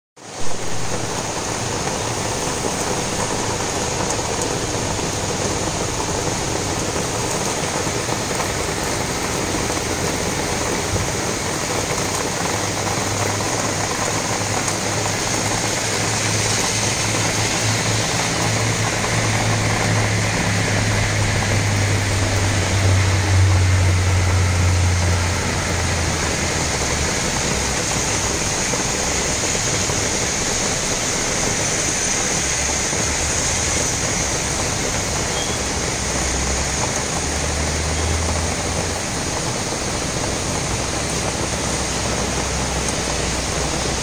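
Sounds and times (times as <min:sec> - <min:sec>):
heavy rain on trees and road: 0:00.2 - 0:44.0
vehicle engine hum: 0:00.2 - 0:44.0.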